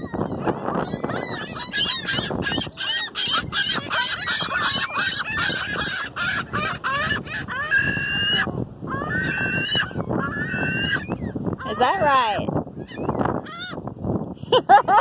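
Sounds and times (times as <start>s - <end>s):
gulls squawking: 0.0s - 13.8s.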